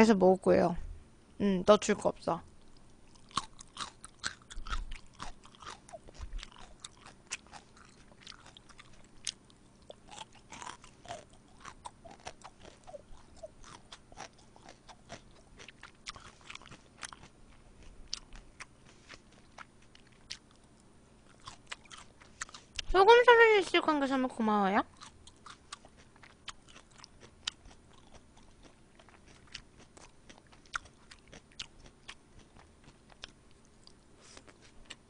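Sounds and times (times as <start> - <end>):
crunchy chewing: 2.6 - 22.9, 24.9 - 35.0.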